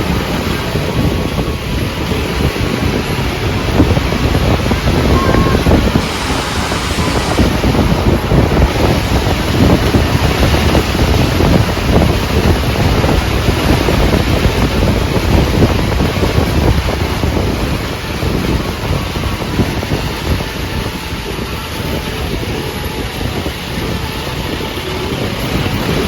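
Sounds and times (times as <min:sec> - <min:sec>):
wind buffeting microphone: 0:00.0 - 0:26.0
car road noise: 0:00.8 - 0:25.8.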